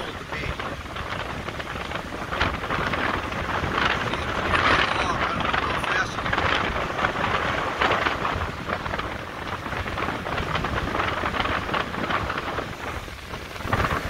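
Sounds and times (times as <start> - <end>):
waves breaking: 0.0 - 14.0
wind buffeting microphone: 0.0 - 14.0.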